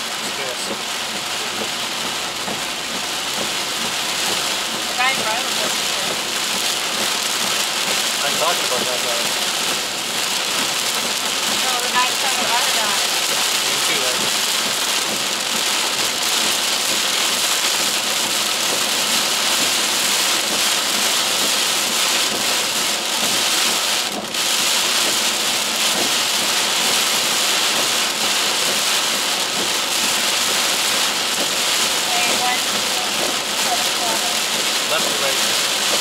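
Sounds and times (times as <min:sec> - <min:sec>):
heavy rain on car windshield: 0:00.0 - 0:36.0.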